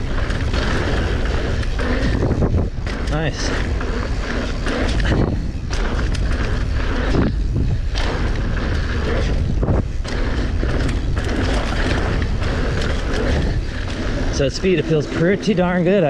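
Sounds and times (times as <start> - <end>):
bike knocking over bumps: 0.0 - 15.6
tyres on dirt: 0.0 - 16.0
wind buffeting microphone: 0.0 - 16.0.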